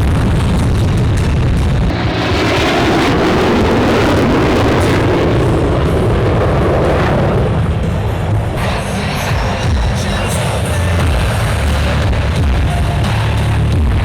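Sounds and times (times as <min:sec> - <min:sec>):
jet roar passing overhead: 0:00.0 - 0:14.0.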